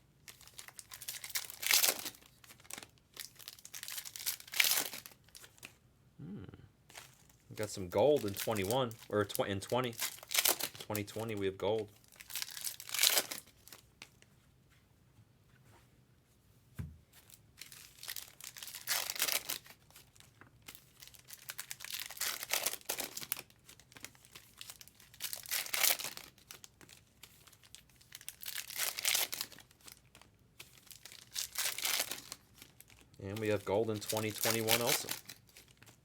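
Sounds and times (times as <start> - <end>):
card wrappers tearing and crinkling: 0.3 - 5.7, 6.9 - 13.9, 17.6 - 36.0.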